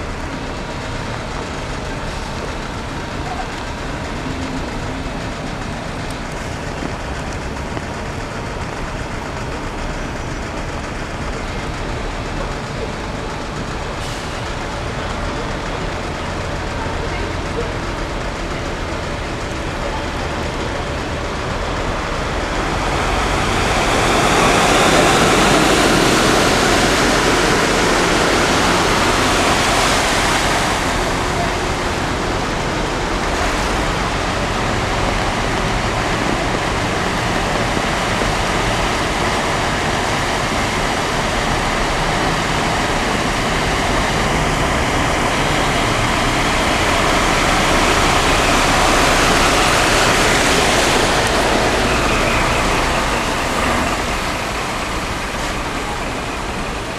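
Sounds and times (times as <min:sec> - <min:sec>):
floodwater rushing and sloshing: 0:00.0 - 0:56.9.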